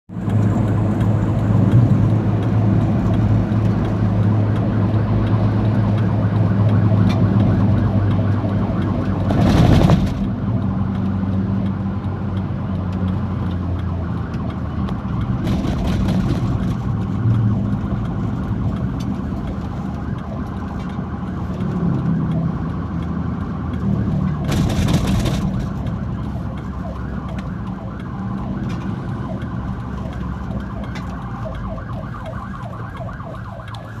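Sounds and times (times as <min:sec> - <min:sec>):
vehicle engine drone: 0:00.1 - 0:34.0.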